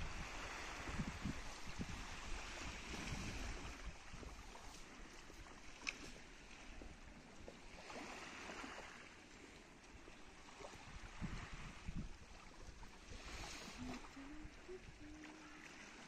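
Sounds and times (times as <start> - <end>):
gentle waves washing: 0.0 - 16.0.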